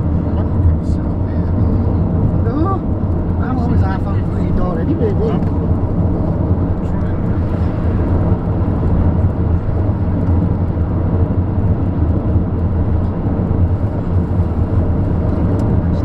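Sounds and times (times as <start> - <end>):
road and wind noise inside car: 0.0 - 16.0.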